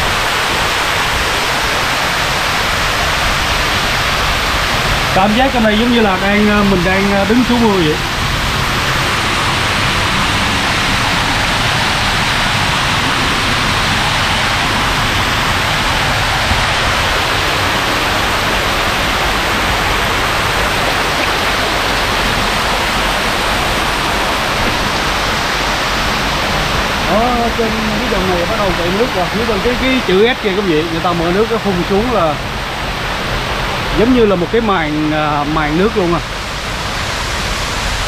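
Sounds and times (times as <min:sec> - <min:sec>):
fountain water splashing into pool: 0:00.0 - 0:38.0.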